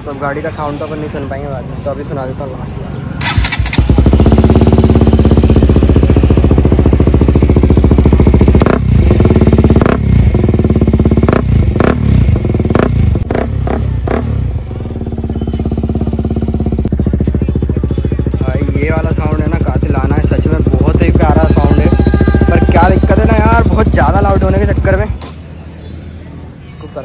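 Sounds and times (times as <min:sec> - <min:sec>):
motorcycle engine running: 0:03.2 - 0:25.7.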